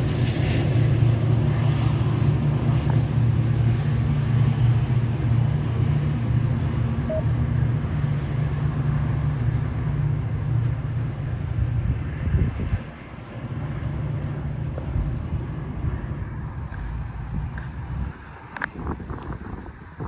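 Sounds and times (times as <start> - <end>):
diesel locomotive droning: 0.0 - 20.0.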